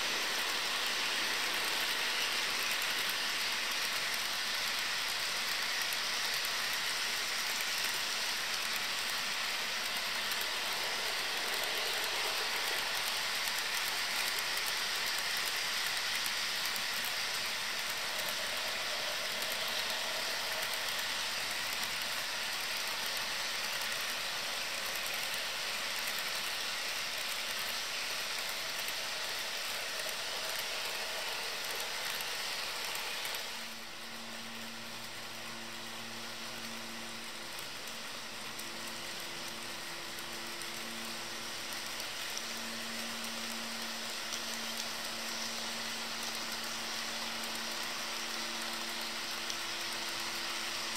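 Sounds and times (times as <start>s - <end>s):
model train wheels clattering: 0.0s - 50.9s.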